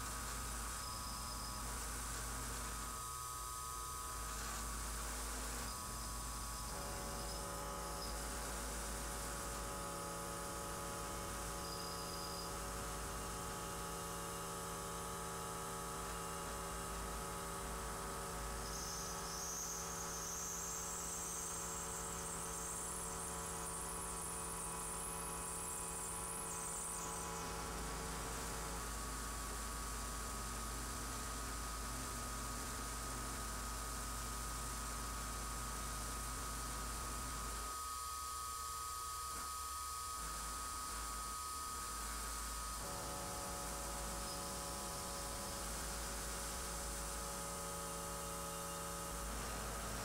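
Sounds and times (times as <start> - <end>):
milling machine motor whine: 0.0 - 50.0.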